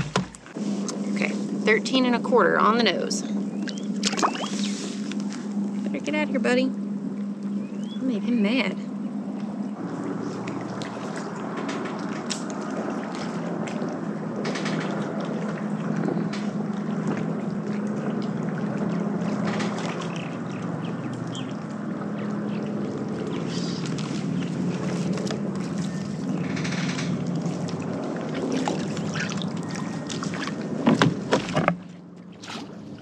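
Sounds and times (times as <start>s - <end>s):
steady low hum: 0.0s - 33.0s
water splashing along a kayak: 2.8s - 6.0s, 9.5s - 33.0s.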